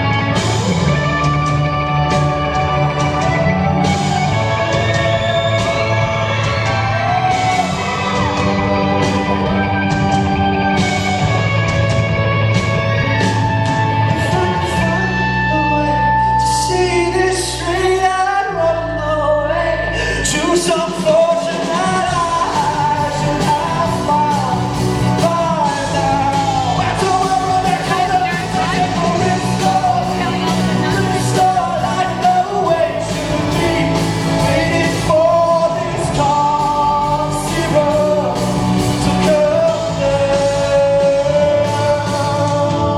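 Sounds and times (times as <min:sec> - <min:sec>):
live rock band with singer: 0:00.0 - 0:42.9.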